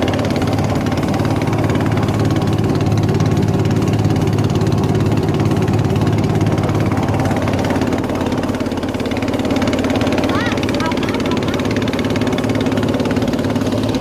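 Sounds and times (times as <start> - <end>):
boat engine running loudly: 0.0 - 14.0.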